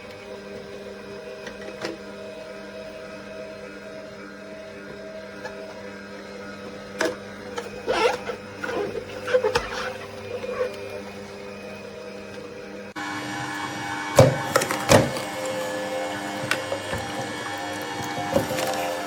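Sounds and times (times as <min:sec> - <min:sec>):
juicer motor humming: 0:00.0 - 0:19.0.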